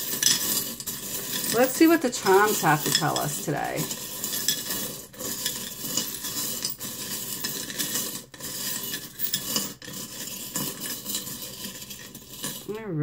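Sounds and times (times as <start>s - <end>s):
beads rattling in glass bowl: 0.0s - 12.7s.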